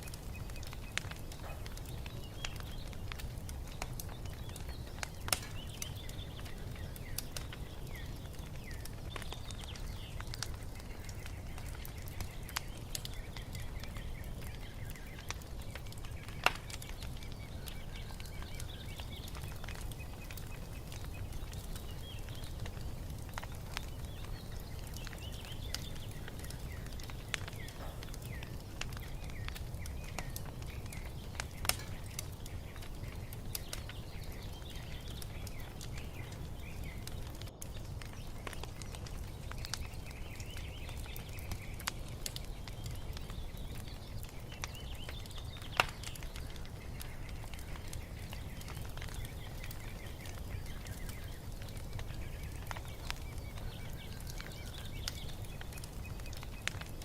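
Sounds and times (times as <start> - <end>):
small birds chirping: 0.0 - 57.0
wood fire crackling: 0.0 - 57.0.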